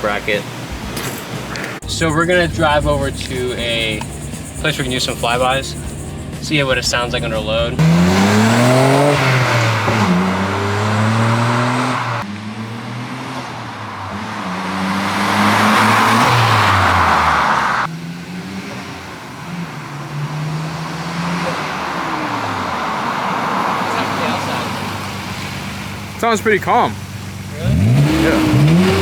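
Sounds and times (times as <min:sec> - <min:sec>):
car engine revving under load: 0:00.0 - 0:29.0.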